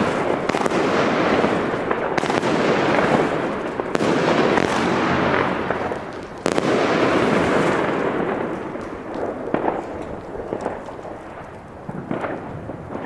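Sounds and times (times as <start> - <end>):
firework bang: 0.0 - 11.2
firework crackling: 0.0 - 13.0
firework pops: 0.0 - 13.0.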